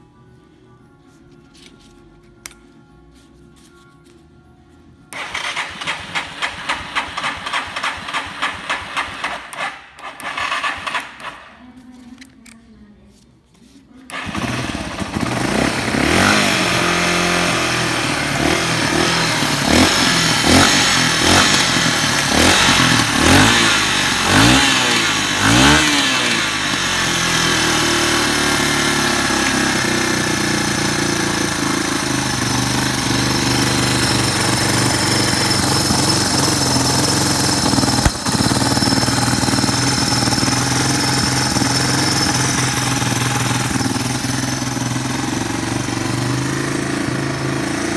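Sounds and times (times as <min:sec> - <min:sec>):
motorcycle engine revving and idling: 0:05.1 - 0:12.3, 0:14.1 - 0:47.9.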